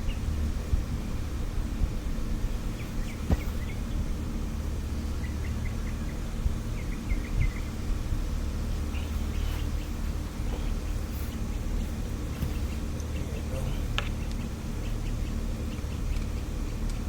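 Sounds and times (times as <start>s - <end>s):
low rumble: 0.0s - 17.0s
small bird chirping: 2.5s - 4.2s, 4.8s - 17.0s.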